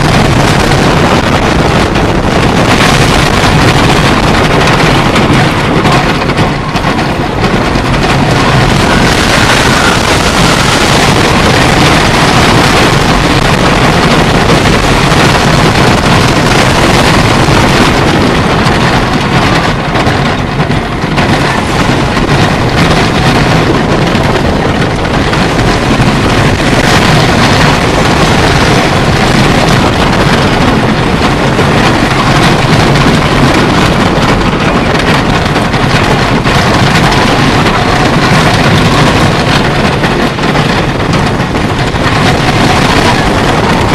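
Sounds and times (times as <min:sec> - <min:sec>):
roller coaster rumbling on track: 0:00.0 - 0:43.9
wind rushing over microphone: 0:00.0 - 0:43.9.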